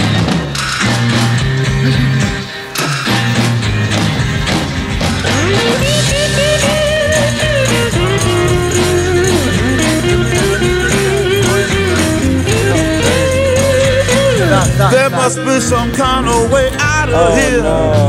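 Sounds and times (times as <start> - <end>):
electric guitar bending notes: 0.0 - 18.0
steady bass line: 0.0 - 18.0.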